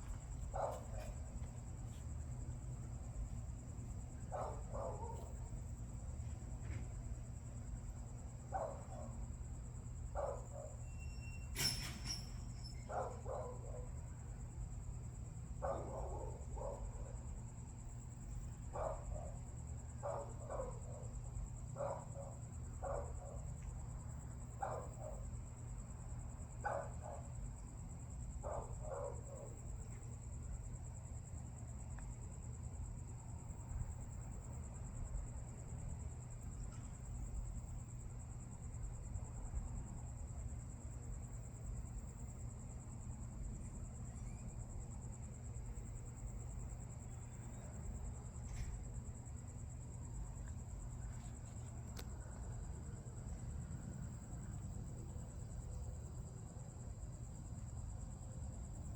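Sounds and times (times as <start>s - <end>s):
crickets chirring: 0.0s - 58.9s
low background hum: 0.0s - 58.9s.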